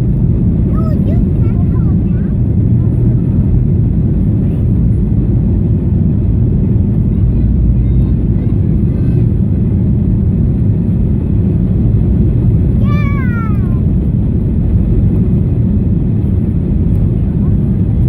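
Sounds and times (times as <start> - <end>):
jet engines roaring in cabin: 0.0 - 18.0.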